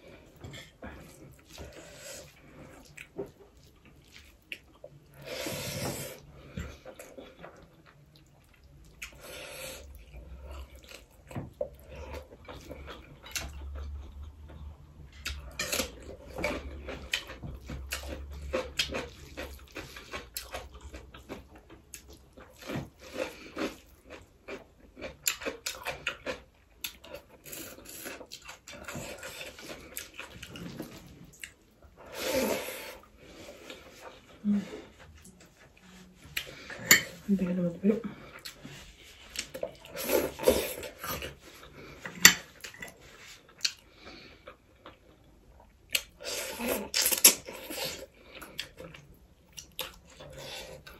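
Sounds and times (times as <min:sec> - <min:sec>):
wet chewing: 0:00.6 - 0:37.1, 0:38.2 - 0:50.9.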